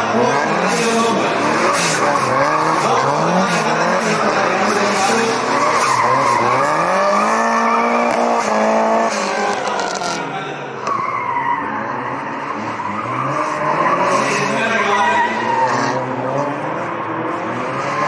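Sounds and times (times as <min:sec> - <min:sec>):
car engine revving: 0:00.0 - 0:10.4, 0:11.3 - 0:18.0
tyres skidding on asphalt: 0:00.0 - 0:18.0.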